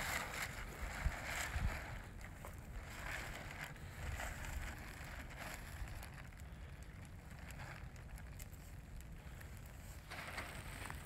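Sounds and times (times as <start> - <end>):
soft rustling: 0.0 - 11.0
wind rumbling on microphone: 0.0 - 11.0.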